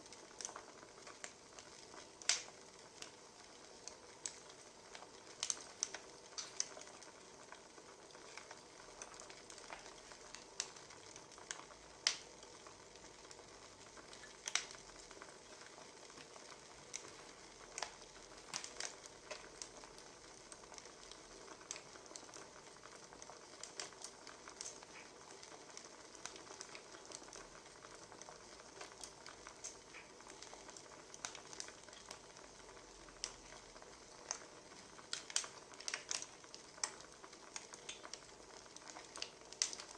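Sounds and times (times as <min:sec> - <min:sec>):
faint steady hiss: 0:00.0 - 0:39.9
wood fire crackling: 0:00.0 - 0:39.9.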